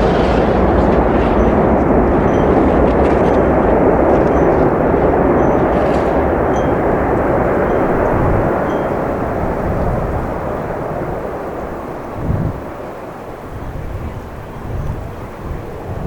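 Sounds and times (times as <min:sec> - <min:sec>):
jet airliner engine roar: 0:00.0 - 0:16.0.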